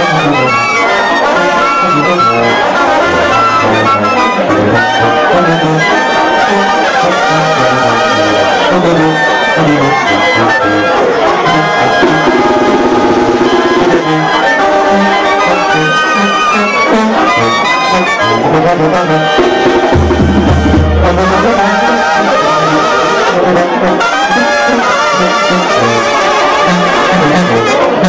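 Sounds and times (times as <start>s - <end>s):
brass band playing dance music: 0.0s - 28.0s.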